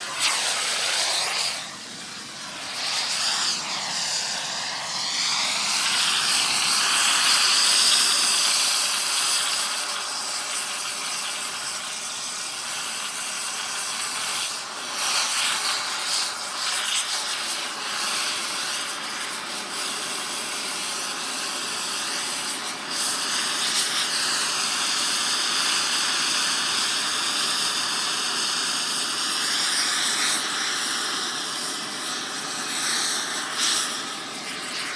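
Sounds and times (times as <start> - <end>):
torch flame hissing against metal: 0.0 - 34.9.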